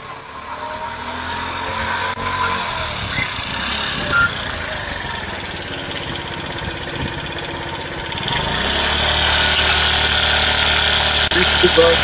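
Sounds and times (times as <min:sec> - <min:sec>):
engine running steadily: 0:02.2 - 0:12.0.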